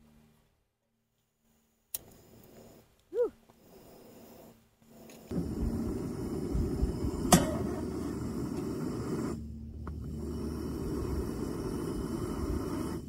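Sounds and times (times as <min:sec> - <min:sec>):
camp stove flame rushing: 0:02.0 - 0:13.0.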